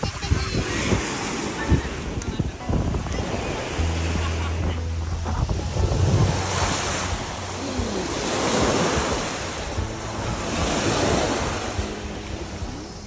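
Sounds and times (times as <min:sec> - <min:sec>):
lake waves lapping on sandy shore: 0:00.0 - 0:13.0
wind buffeting microphone: 0:00.0 - 0:13.0.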